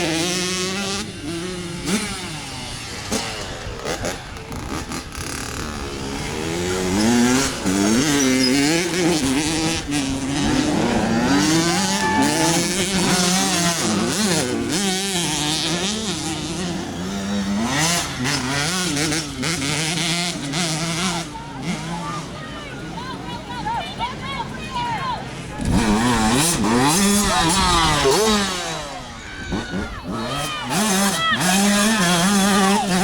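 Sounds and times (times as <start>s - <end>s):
off-road racing engines revving: 0.0s - 33.0s.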